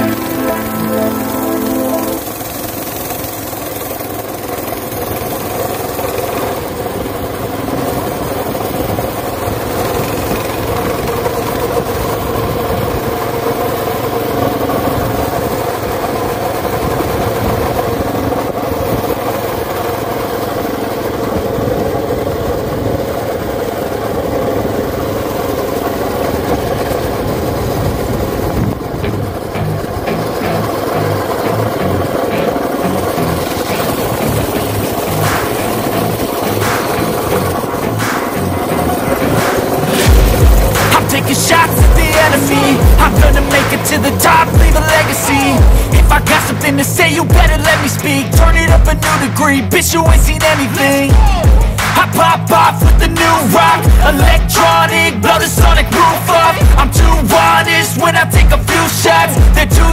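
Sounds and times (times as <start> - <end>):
small motorcycle engine running: 0.0 - 59.9.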